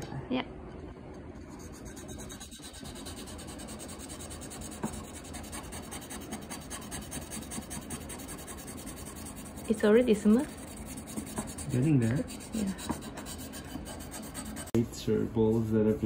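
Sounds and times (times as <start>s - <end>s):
whetstone rubbing on ceramic: 1.4s - 14.8s.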